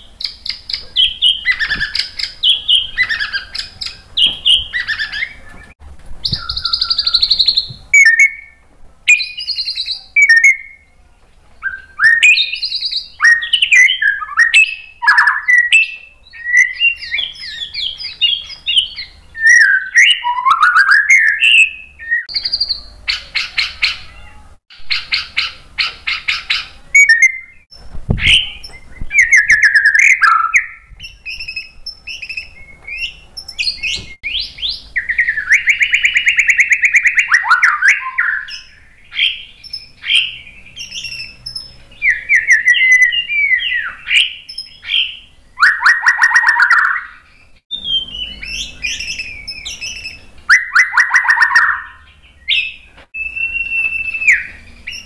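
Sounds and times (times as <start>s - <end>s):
bird singing whistled phrases: 0.0s - 11.0s, 11.6s - 55.0s.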